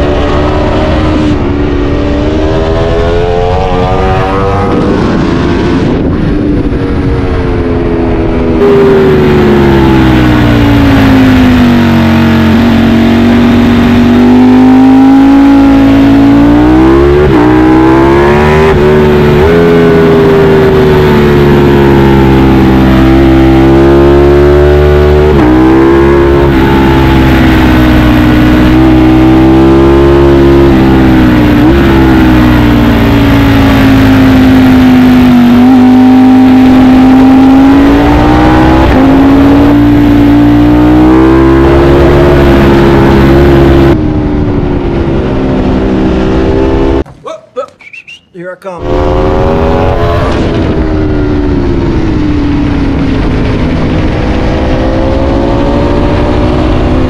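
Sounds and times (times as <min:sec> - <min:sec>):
motorcycle engine revving: 0:00.0 - 0:47.1, 0:48.8 - 0:57.0.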